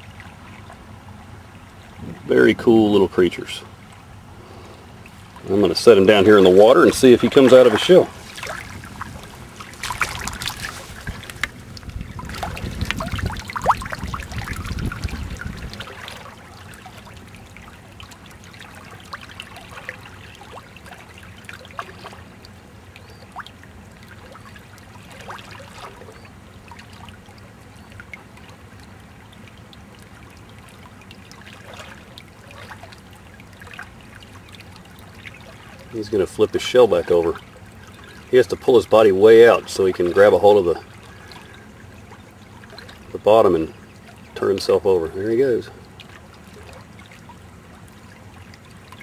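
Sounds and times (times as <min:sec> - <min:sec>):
low rumbling and splashing: 0:00.0 - 0:49.0
small water splashes: 0:00.0 - 0:49.0
water trickling and lapping: 0:00.0 - 0:49.0.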